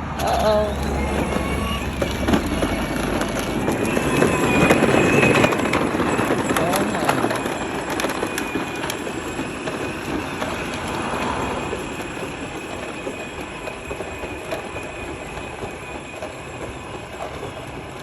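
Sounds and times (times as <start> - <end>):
tractor rumbling and rattling: 0.0 - 18.0.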